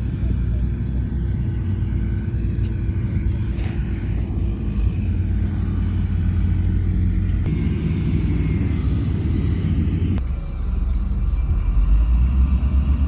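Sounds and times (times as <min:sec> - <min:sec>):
heavy diesel machinery rumble: 0:00.0 - 0:13.0.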